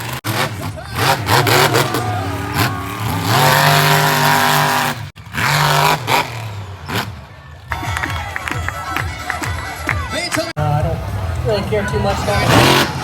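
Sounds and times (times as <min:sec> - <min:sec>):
monster truck engine revving: 0:00.0 - 0:10.0, 0:10.6 - 0:13.0.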